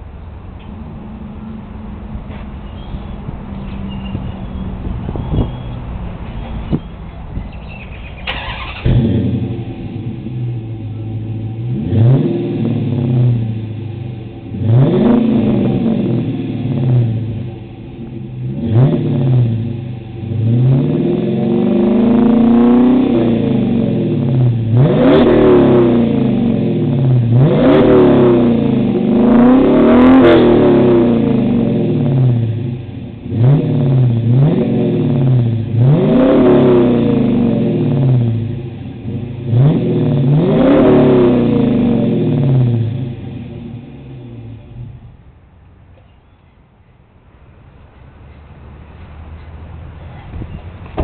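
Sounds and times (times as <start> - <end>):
car engine idling and revving: 0.0 - 51.0.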